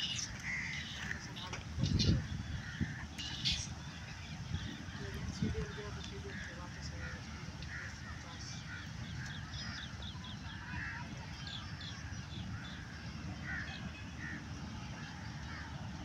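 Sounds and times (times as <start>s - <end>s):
harsh bird calls: 0.0s - 16.0s.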